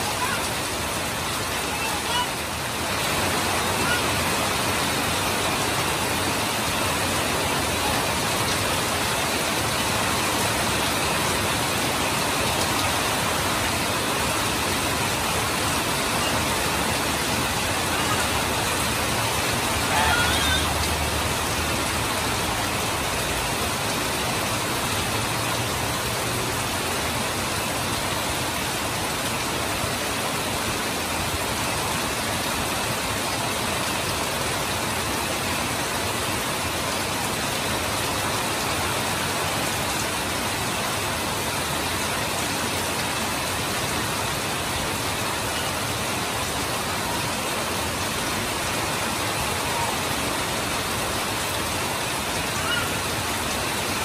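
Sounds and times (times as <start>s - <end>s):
heavy rain: 0.0s - 54.0s
water streaming off roof: 0.0s - 54.0s.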